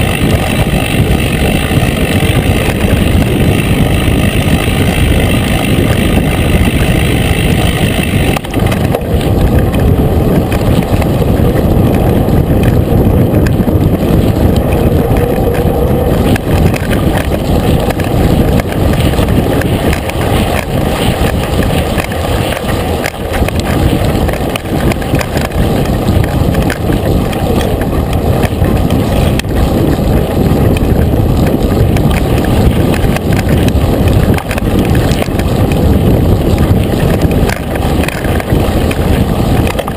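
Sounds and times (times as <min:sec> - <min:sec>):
bike rattling over bumps: 0:00.0 - 0:39.9
tyres rolling over dirt: 0:00.0 - 0:39.9
wind on microphone: 0:00.0 - 0:39.9.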